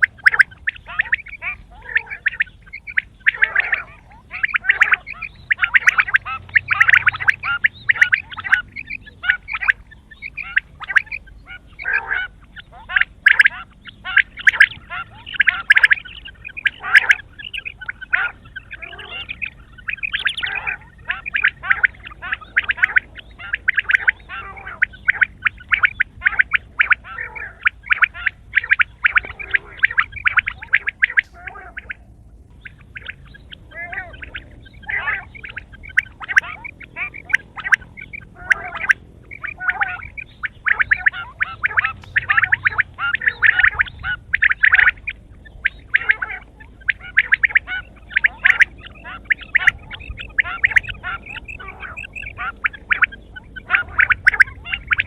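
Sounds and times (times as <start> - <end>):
quail rattling chatter: 0.0 - 55.0.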